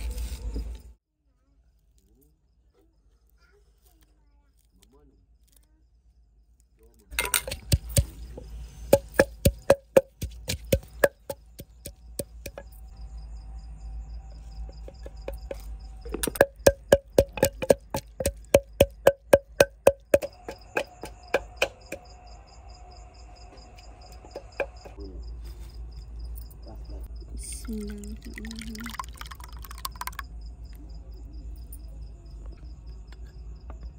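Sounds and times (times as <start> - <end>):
cricket chirping: 4.0 - 33.9.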